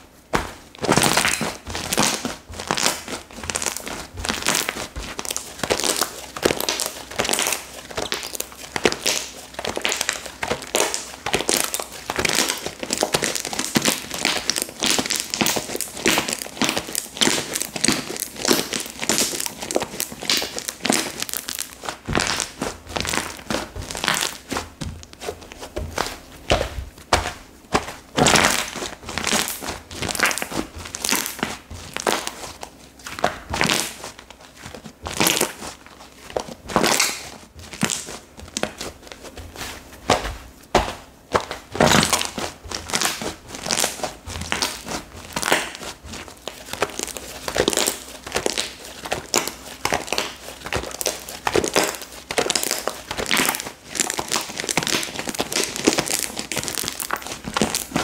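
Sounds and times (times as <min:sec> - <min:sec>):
slime squished by hand: 0:00.3 - 0:58.0.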